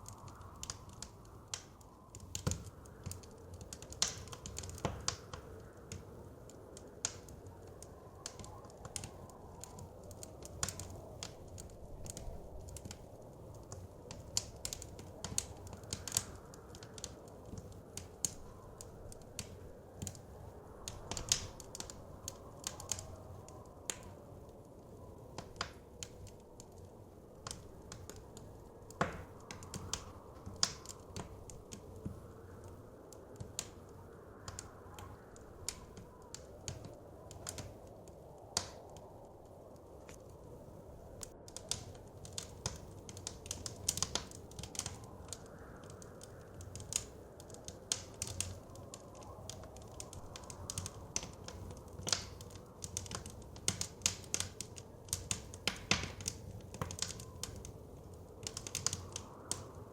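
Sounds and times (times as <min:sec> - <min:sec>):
blizzard wind rushing: 0:00.0 - 0:54.0
wood fire crackling: 0:00.0 - 0:59.9.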